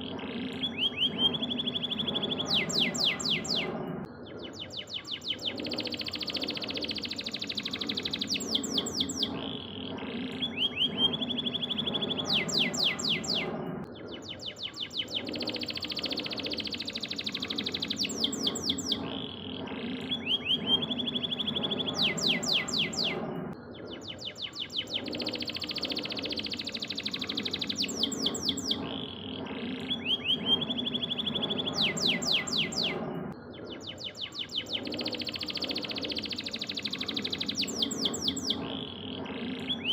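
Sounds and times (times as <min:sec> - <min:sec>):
canary singing trills: 0:00.0 - 0:39.9
low background drone: 0:00.0 - 0:39.9.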